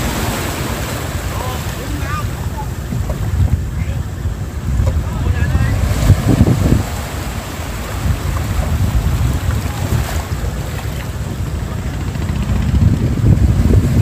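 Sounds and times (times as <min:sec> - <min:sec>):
waves washing onto rocks: 0:00.0 - 0:14.0
wind buffeting microphone: 0:00.0 - 0:14.0.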